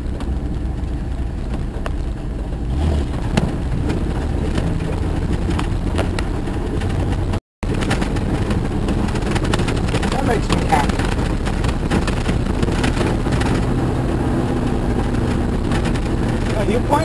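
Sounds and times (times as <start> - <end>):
engine and tyre rumble: 0.0 - 17.0
knocks and rattles: 0.0 - 17.0.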